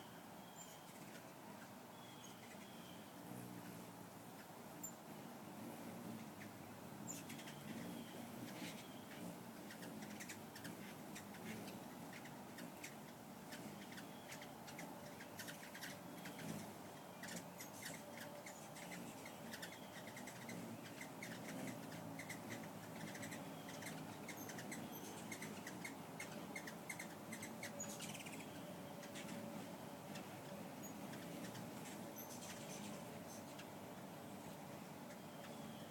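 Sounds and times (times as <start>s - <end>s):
faint low hum: 0.0s - 35.9s
hummingbirds chipping: 0.0s - 35.9s.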